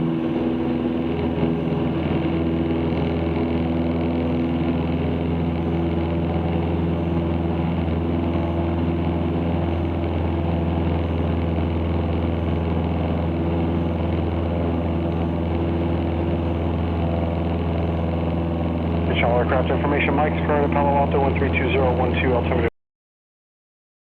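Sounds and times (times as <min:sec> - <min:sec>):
aircraft engine and propeller drone: 0:00.0 - 0:22.7.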